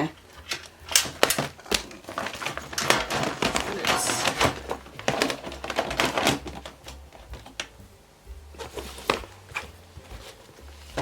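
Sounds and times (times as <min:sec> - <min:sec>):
craft supplies rustling and tapping: 0:00.0 - 0:11.0.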